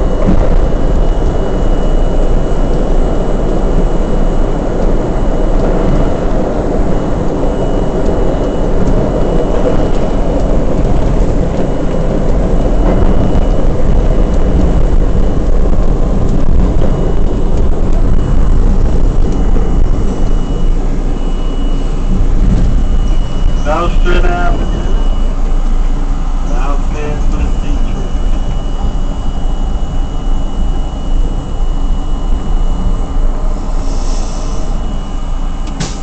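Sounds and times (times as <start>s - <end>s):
faint high whine: 0.0s - 36.0s
subway wheels and motors rumbling: 0.0s - 36.0s.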